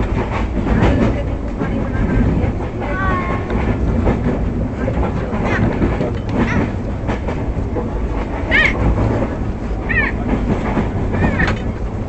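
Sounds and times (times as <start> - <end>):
train rumbling and clattering: 0.0 - 12.0.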